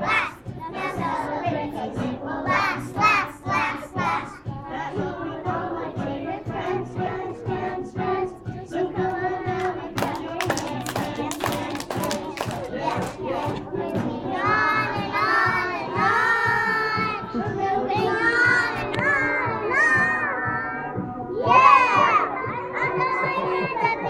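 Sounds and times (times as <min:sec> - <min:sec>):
children singing together: 0:00.0 - 0:24.0.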